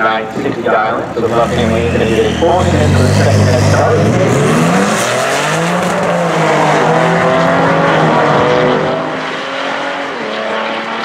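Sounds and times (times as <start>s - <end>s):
car engines at full throttle: 0.0s - 11.0s.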